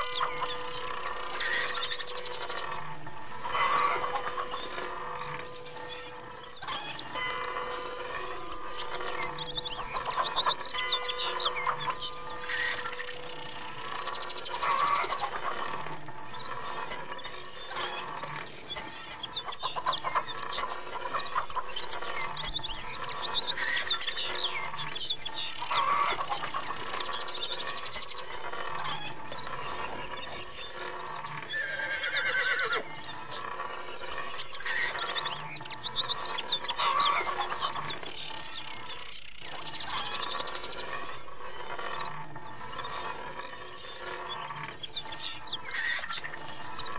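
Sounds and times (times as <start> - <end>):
high chirping and squealing glides: 0.0 - 46.9.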